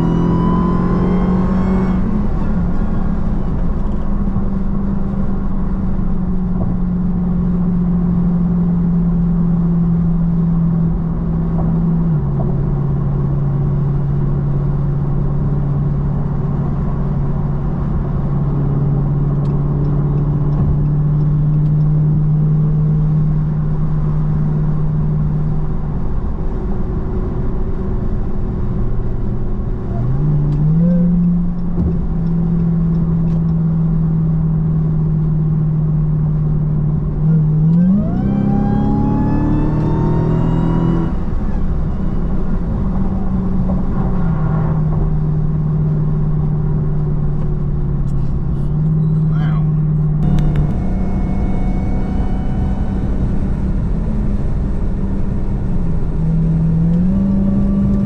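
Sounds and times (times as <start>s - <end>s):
car engine cruising and accelerating: 0.0s - 58.0s.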